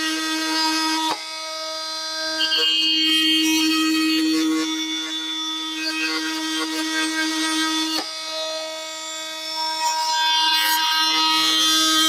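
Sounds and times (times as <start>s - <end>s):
oscillating multi-tool cutting wood: 0.0s - 12.0s.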